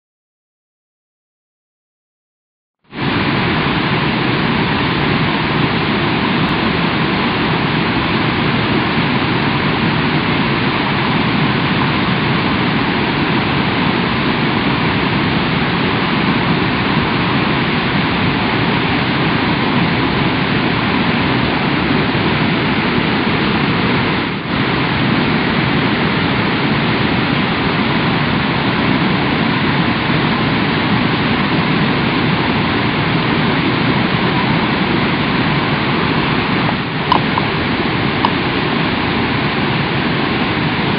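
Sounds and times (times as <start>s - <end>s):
waterfall rushing over rocks: 3.0s - 40.9s.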